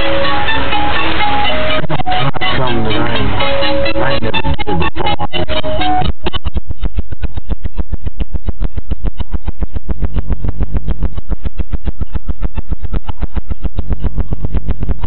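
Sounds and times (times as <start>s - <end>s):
bass-heavy electronic music: 0.0s - 15.0s.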